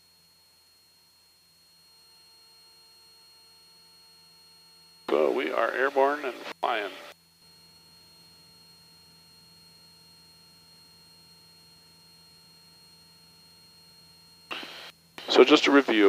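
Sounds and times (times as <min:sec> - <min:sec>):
thin steady whining tones: 0:00.0 - 0:16.0.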